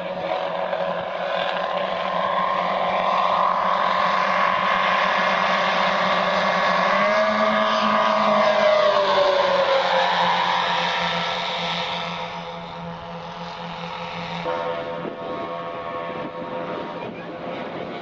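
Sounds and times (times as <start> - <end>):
model plane engines droning: 0.0 - 18.0.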